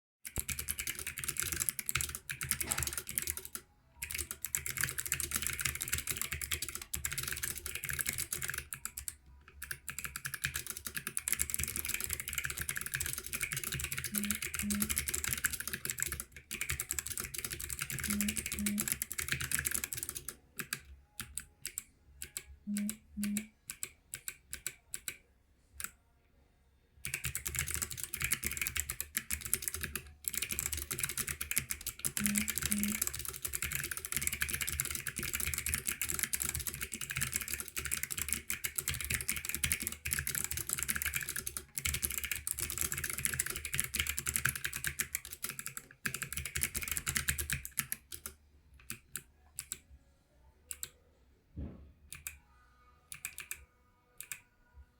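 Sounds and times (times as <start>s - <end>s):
clicky keyboard typing: 0.3s - 25.2s, 27.0s - 49.8s, 50.7s - 51.0s, 52.1s - 52.4s, 53.1s - 53.6s, 54.2s - 54.5s.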